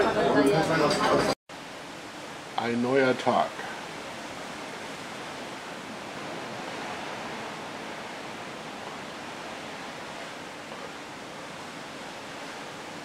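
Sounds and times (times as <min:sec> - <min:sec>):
sea and wind rushing: 0:00.0 - 0:13.0.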